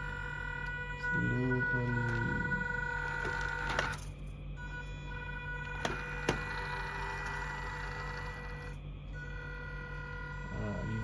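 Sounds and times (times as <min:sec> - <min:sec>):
electric motor whine: 0:00.0 - 0:11.0
low hum: 0:00.0 - 0:11.0.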